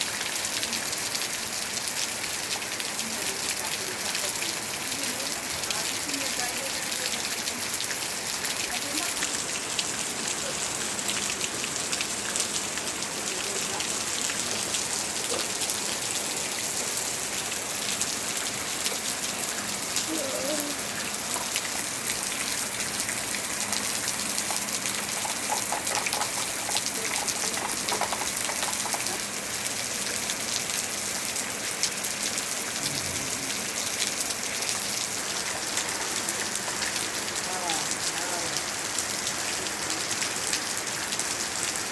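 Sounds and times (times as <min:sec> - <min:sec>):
rain pattering: 0:00.0 - 0:41.9.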